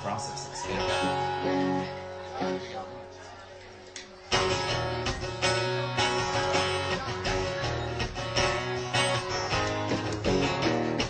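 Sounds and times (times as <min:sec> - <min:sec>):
acoustic guitar strumming: 0:00.0 - 0:03.2, 0:04.3 - 0:11.0.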